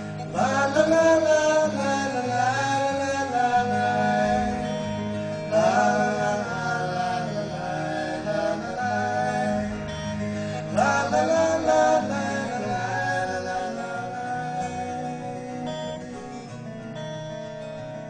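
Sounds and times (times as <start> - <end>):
plucked guitar: 0.0 - 18.0.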